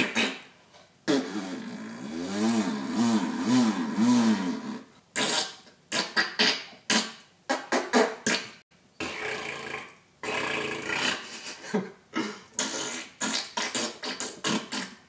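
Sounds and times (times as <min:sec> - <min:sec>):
fart noises: 0:00.0 - 0:00.5, 0:01.1 - 0:11.6, 0:12.2 - 0:15.0.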